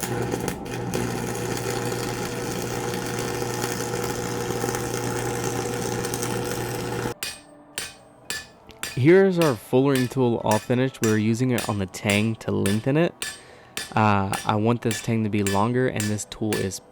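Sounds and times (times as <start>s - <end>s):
arc welder crackling: 0.0s - 16.9s.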